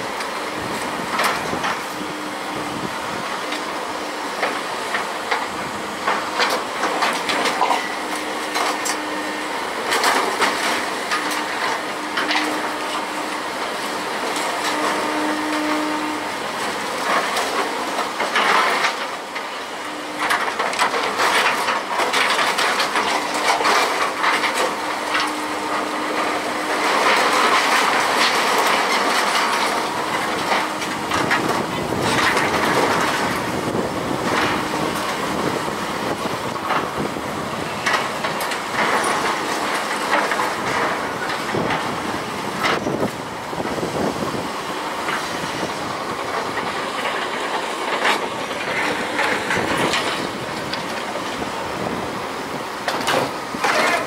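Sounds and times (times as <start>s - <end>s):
excavator hum: 0.0s - 54.0s.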